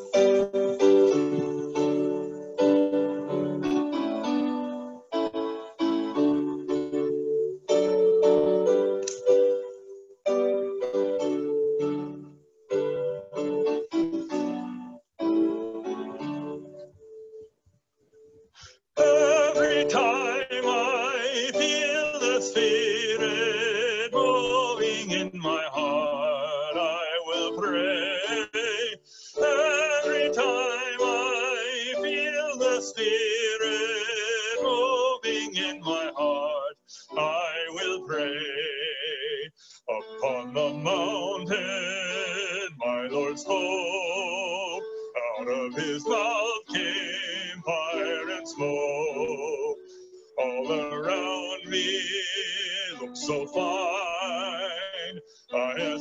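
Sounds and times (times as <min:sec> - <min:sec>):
piano accompaniment: 0:00.0 - 0:17.6, 0:18.2 - 0:56.0.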